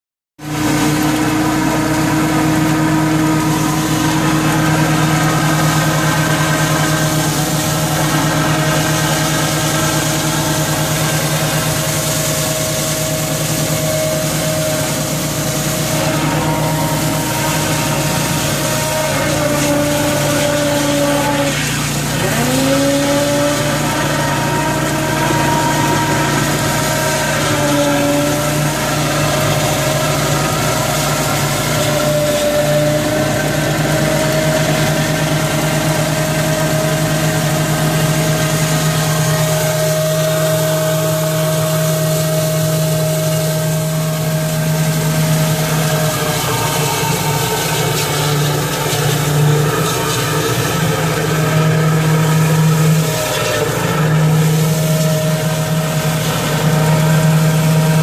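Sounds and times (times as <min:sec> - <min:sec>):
hydro jetter droning: 0:00.4 - 0:58.0
nozzle spraying in drain line: 0:00.4 - 0:58.0.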